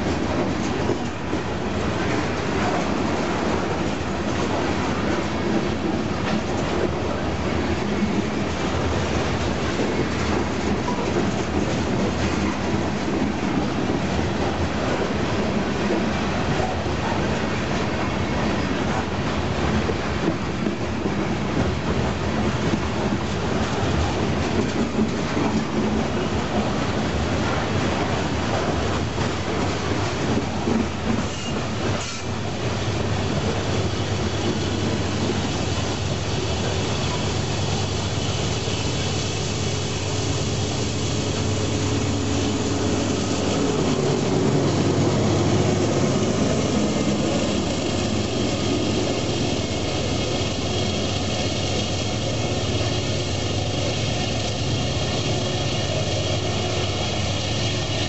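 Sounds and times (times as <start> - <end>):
steel train wheels on rails: 0.0 - 58.0.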